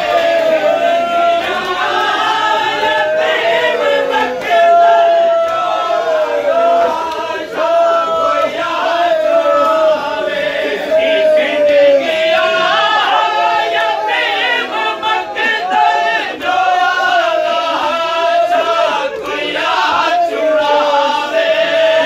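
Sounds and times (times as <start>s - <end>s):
crowd of men singing a lament: 0.0s - 22.0s.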